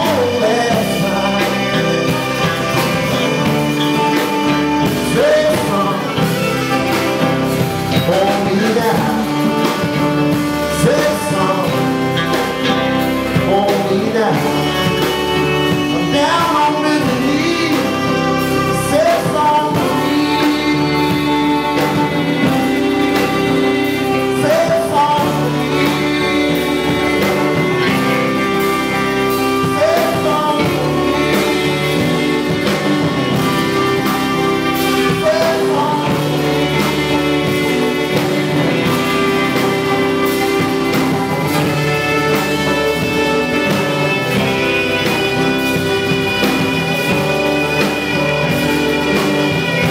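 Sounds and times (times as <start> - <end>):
acoustic guitar: 0.0 - 49.9
drum kit: 0.0 - 49.9
electric bass: 0.0 - 49.9
electric guitar: 0.0 - 49.9
saxophone melody: 0.0 - 49.9.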